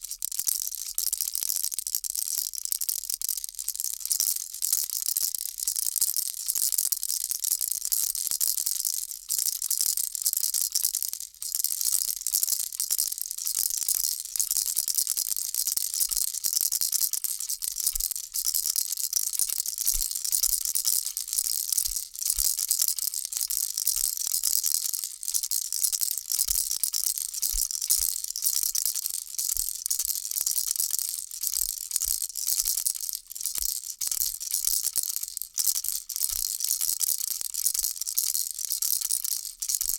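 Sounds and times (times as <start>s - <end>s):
baby rattle shaking: 7.4s - 39.9s.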